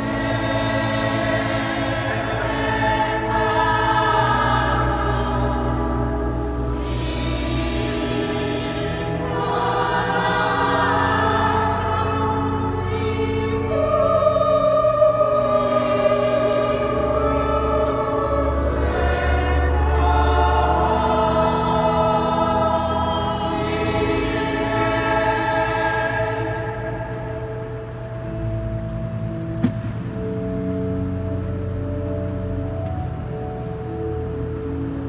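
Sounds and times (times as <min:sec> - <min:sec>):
choir singing sacred chords: 0:00.0 - 0:35.0
held low bass notes: 0:00.0 - 0:35.0.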